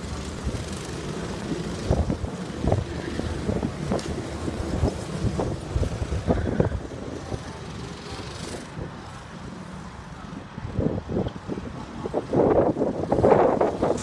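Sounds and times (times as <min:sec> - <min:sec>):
wind buffeting microphone: 0:00.0 - 0:09.2, 0:10.2 - 0:14.0
faint go-kart engine: 0:00.0 - 0:14.0.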